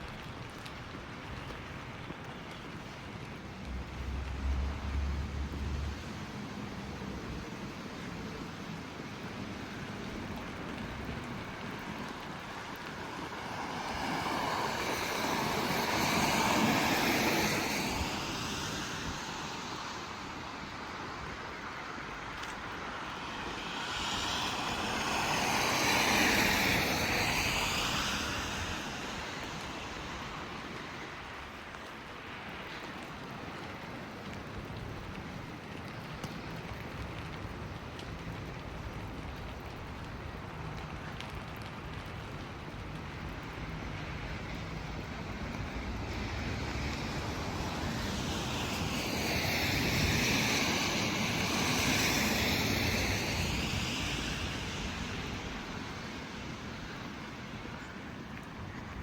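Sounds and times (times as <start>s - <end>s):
rain hiss: 0.0s - 59.0s
vehicles passing on wet street: 0.0s - 59.0s.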